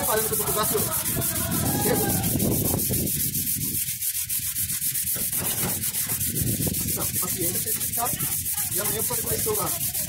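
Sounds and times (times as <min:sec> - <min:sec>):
sandpaper scratching on metal: 0:00.0 - 0:10.0.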